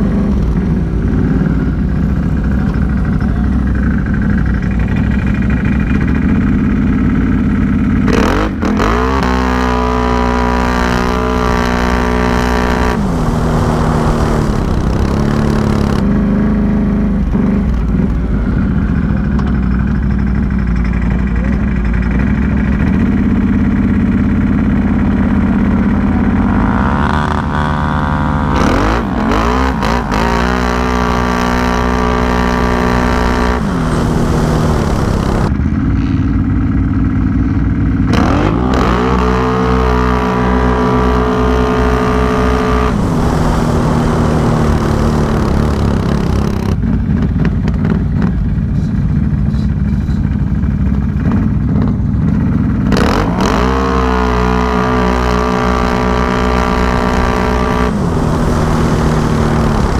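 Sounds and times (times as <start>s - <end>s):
engine revving: 0.0s - 36.3s, 37.9s - 59.9s.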